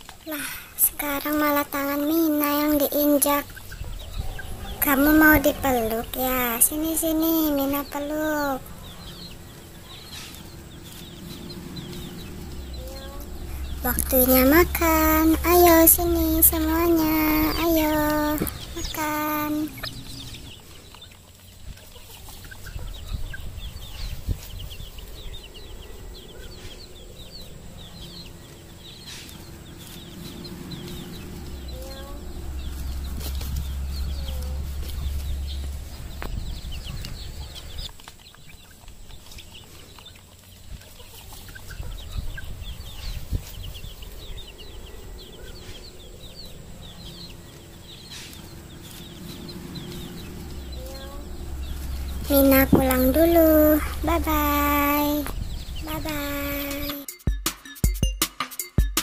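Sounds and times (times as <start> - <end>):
chicks peeping: 0.0 - 57.0
hens clucking: 0.0 - 57.0
low rumble: 0.9 - 56.9.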